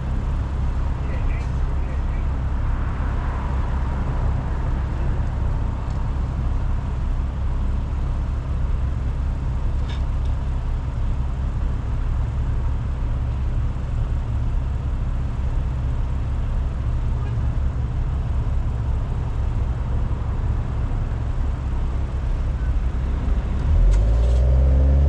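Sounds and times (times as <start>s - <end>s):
car exhaust cruising: 0.0s - 25.0s.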